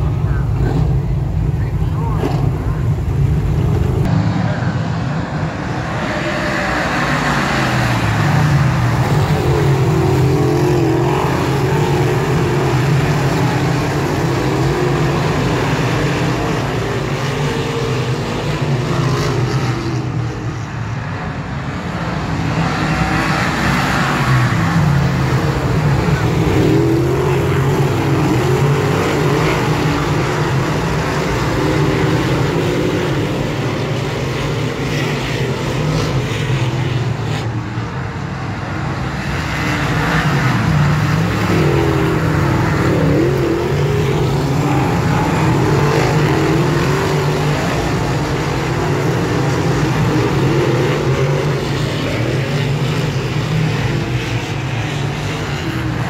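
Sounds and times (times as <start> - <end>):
race car engines roaring: 0.0 - 56.0.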